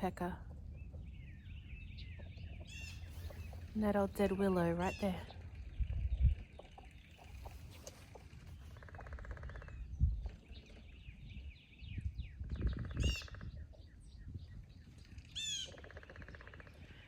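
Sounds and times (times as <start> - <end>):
birds chirping and whistling: 0.0 - 3.9, 4.8 - 17.0.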